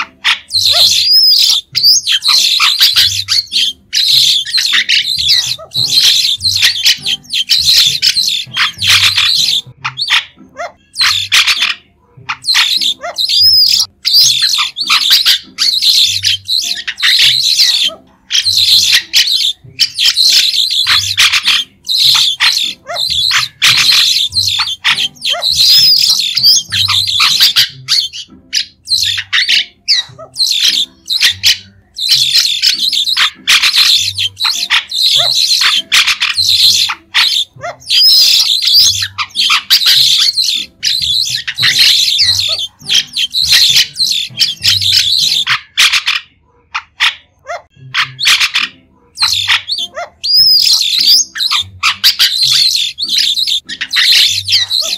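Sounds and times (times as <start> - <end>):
starlings chattering calls: 0.0 - 47.1, 47.7 - 54.9.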